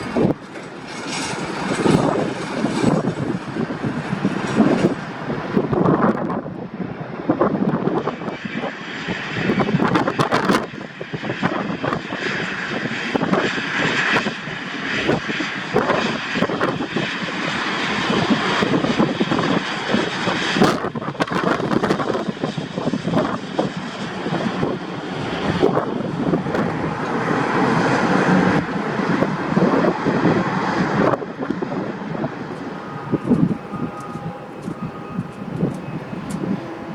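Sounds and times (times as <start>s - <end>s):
jet airliner engine rushing: 0.0s - 36.9s.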